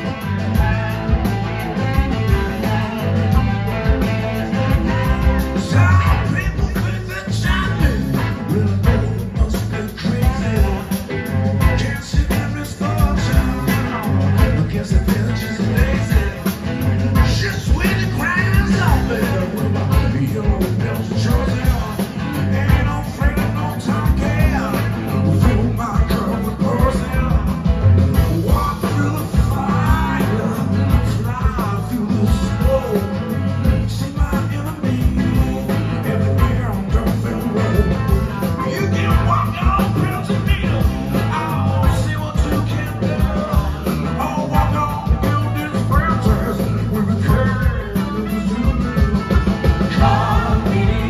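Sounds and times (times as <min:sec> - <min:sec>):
bass guitar: 0:00.0 - 0:51.0
drums: 0:00.0 - 0:51.0
electric guitars: 0:00.0 - 0:51.0
keyboards: 0:00.0 - 0:51.0
man singing: 0:00.0 - 0:51.0.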